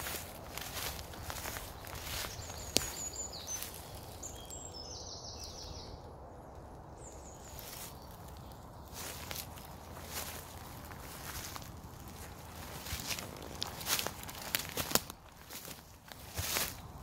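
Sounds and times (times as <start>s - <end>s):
footsteps through undergrowth: 0.0s - 4.7s, 7.0s - 17.0s
songbirds singing: 0.0s - 17.0s.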